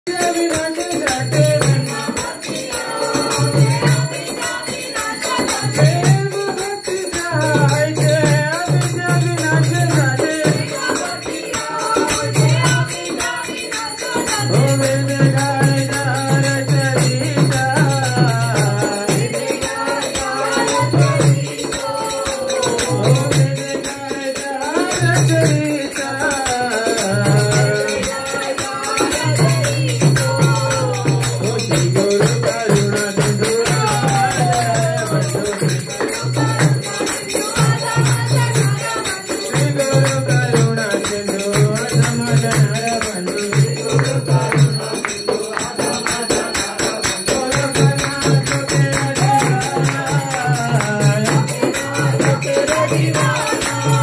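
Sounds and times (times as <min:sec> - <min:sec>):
jingling hand percussion: 0:00.0 - 0:54.0.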